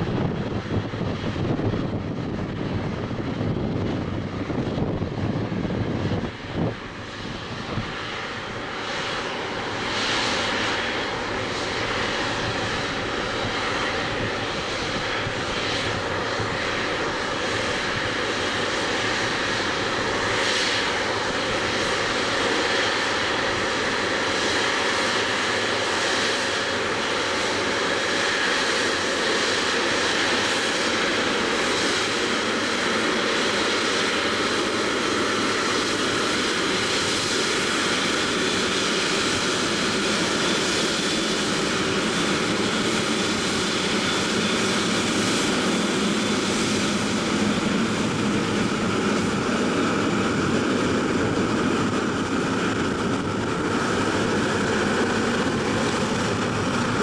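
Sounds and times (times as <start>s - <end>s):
jet engines humming and whining: 0.0s - 57.0s.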